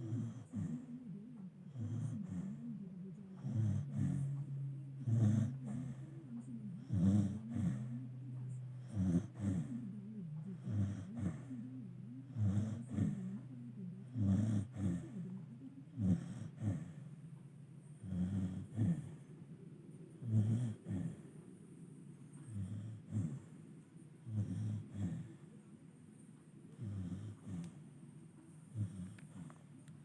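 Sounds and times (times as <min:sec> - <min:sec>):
dog snoring: 0:00.0 - 0:30.0.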